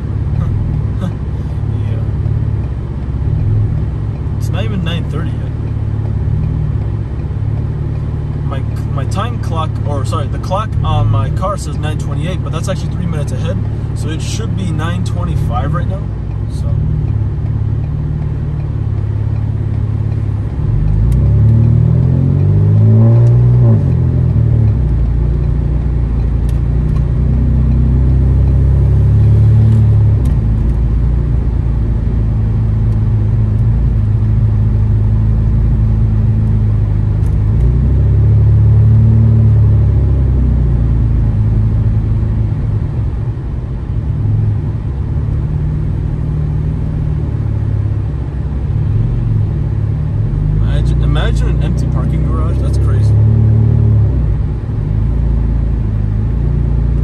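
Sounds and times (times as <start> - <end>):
car exhaust droning: 0.0 - 57.0.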